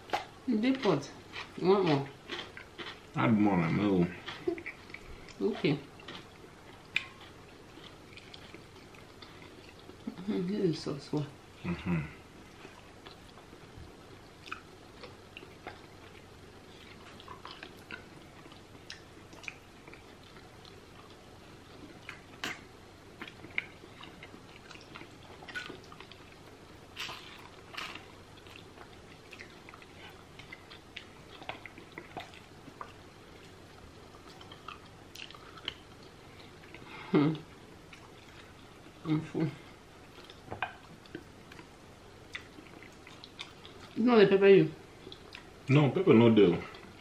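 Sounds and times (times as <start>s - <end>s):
people chewing and biting meat: 0.0s - 10.3s, 11.6s - 39.0s, 39.8s - 44.0s.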